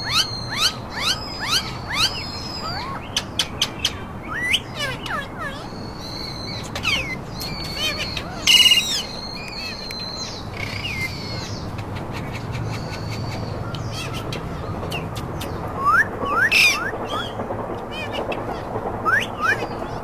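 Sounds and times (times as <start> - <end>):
parakeets whistling and chirping: 0.0 - 20.0.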